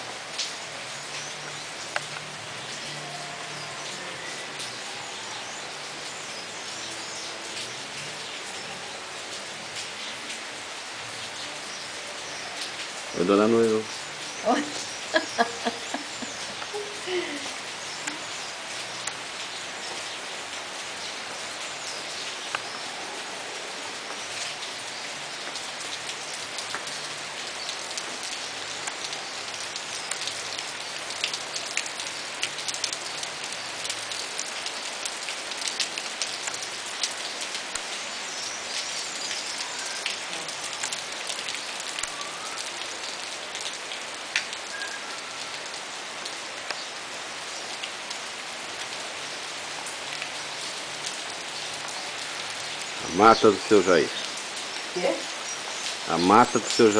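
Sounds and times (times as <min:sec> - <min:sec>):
rain falling on trees: 0:00.0 - 0:56.9
sharp raindrops ticking: 0:00.0 - 0:56.9.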